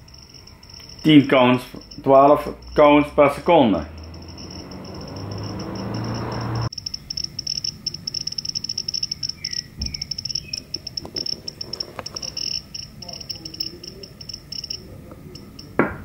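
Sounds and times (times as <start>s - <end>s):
geiger counter chirps: 0.0s - 15.8s.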